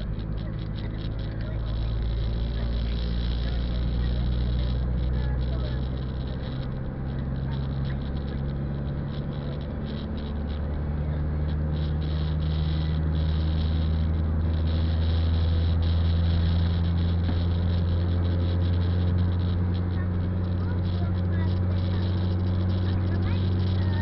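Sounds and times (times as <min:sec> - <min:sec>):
car engine and tyre hum: 0:00.0 - 0:24.0.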